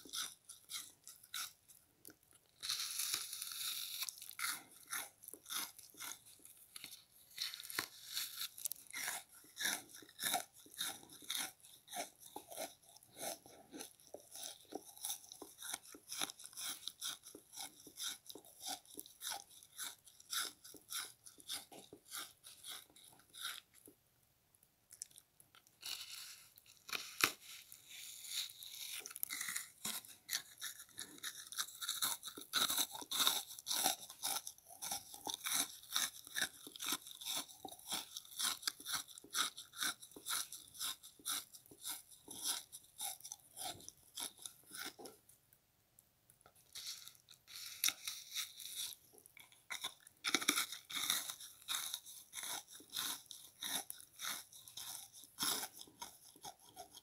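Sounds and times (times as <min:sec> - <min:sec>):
crunchy chewing of sponge: 0:00.0 - 0:24.0, 0:24.9 - 0:45.5, 0:46.4 - 0:57.0.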